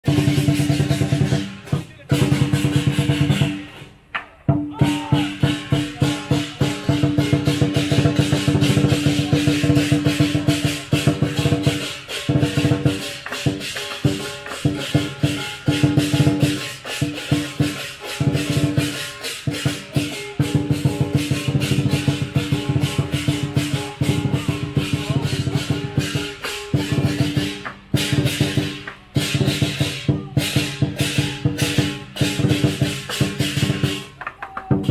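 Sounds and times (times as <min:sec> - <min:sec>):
crashing cymbals: 0:00.0 - 0:34.9
large drum beating: 0:00.0 - 0:34.9.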